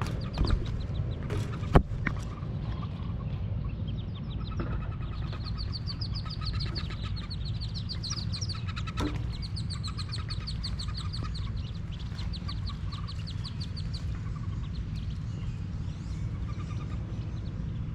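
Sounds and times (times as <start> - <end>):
ducklings peeping: 0.0 - 17.9
steady low rumble: 0.0 - 17.9.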